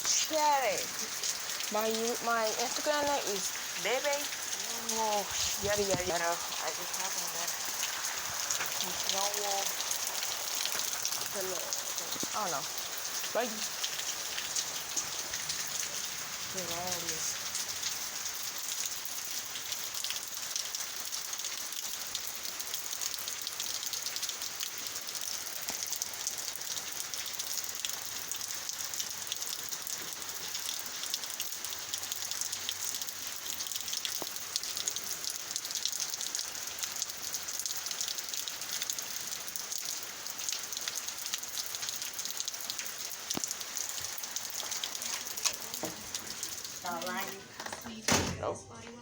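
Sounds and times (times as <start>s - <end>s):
heavy rain falling: 0.0s - 48.4s.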